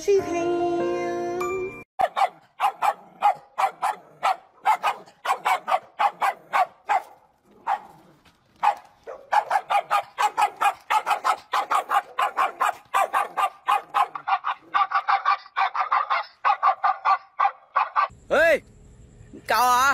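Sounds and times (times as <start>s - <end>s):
dog barking: 2.0s - 18.1s.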